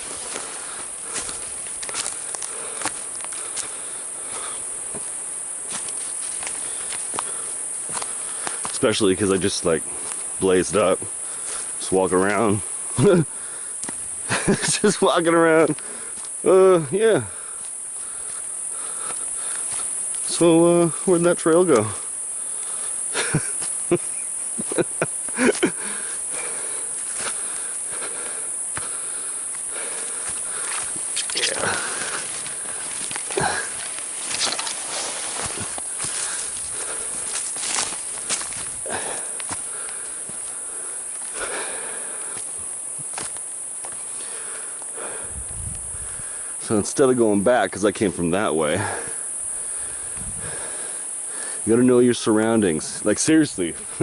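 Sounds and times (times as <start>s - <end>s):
footsteps on forest floor: 0.0s - 16.5s, 17.2s - 47.1s
high-pitched insect trill: 0.0s - 54.0s.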